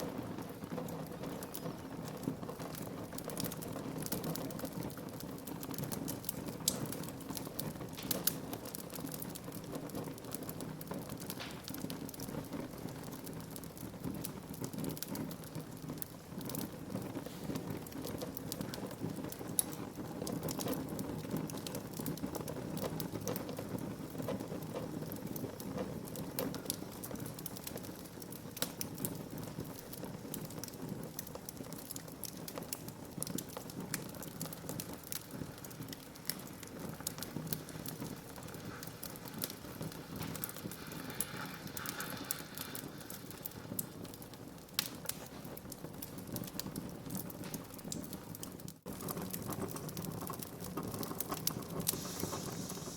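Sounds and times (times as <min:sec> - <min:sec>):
sharp pops of fire: 0:00.0 - 0:52.9
wood fire crackling: 0:00.0 - 0:52.9.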